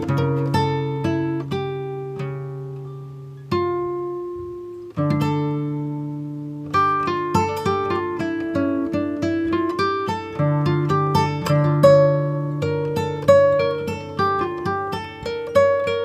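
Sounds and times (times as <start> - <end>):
plucked acoustic guitar: 0.0 - 16.0.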